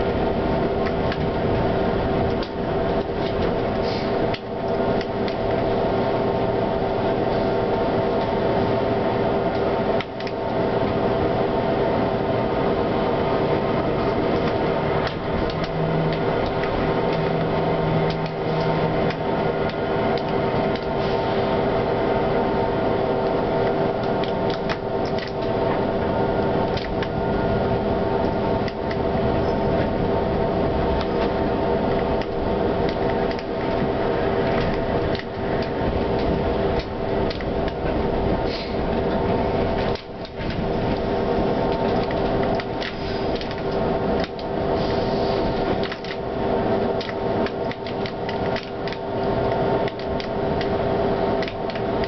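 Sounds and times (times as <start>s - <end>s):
wheels clicking on rails: 0.0s - 22.4s, 23.2s - 52.0s
tram hum: 0.0s - 52.0s.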